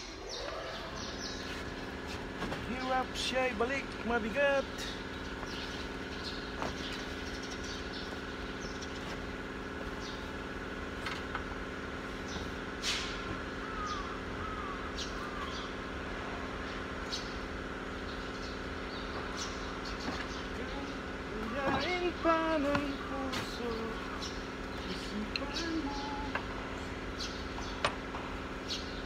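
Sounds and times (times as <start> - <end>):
bird chirps: 0.0 - 10.7, 12.2 - 15.9, 16.6 - 26.4, 27.1 - 29.0
machine humming: 0.0 - 29.0.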